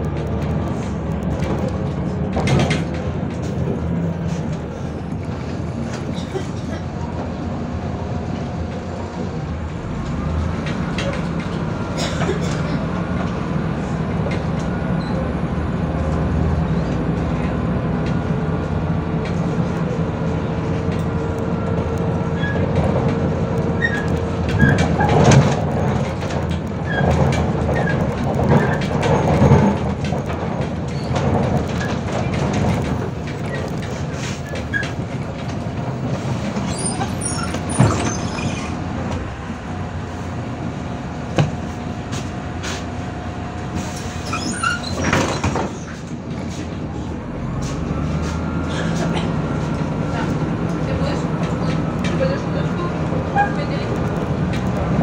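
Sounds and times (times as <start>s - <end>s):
bus body rattling and knocking: 0.0s - 55.0s
bus diesel engine hum: 0.0s - 55.0s.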